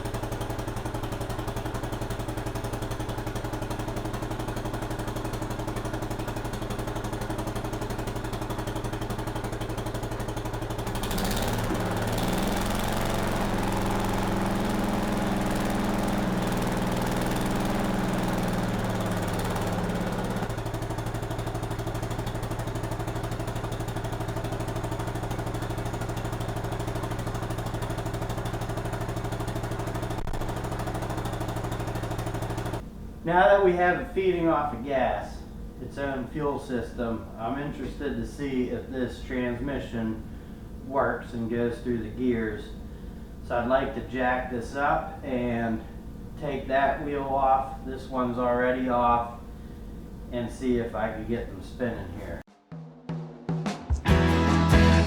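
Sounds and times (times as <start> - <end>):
tractor engine idling and revving: 0.0 - 52.5, 54.1 - 55.0.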